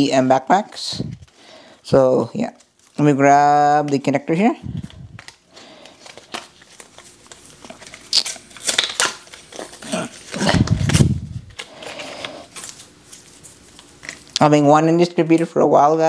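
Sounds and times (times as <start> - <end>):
paper and plastic wrap crinkling: 0.4 - 14.5.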